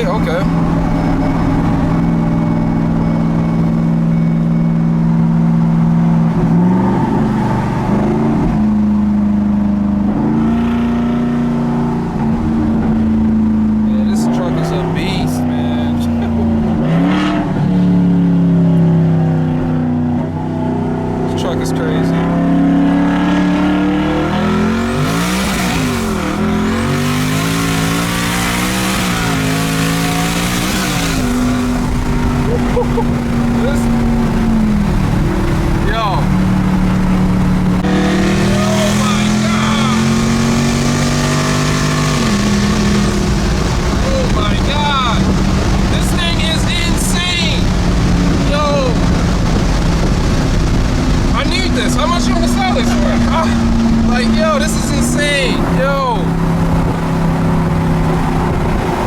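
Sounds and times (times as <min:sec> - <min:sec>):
truck engine and exhaust droning: 0:00.0 - 0:59.0.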